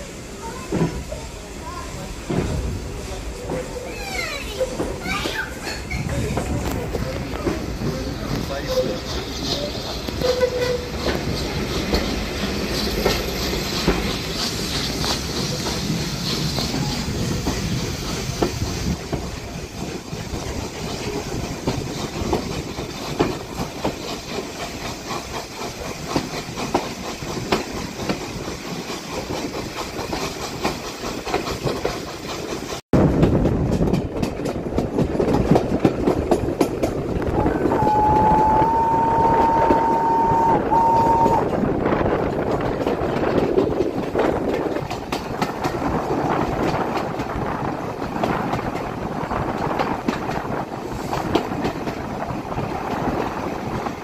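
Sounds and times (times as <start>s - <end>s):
train carriage rumbling: 0.0s - 54.0s
wheels clicking over rail joints: 2.0s - 54.0s.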